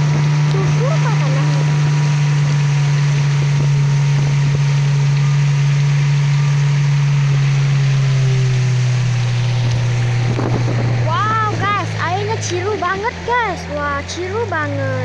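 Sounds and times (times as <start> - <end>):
boat motor running: 0.0 - 15.0
water rushing along hull: 0.0 - 15.0.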